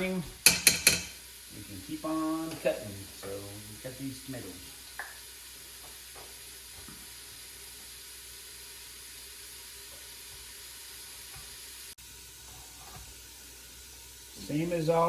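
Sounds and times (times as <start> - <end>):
sausage meat sizzling in a pot: 0.0 - 15.0.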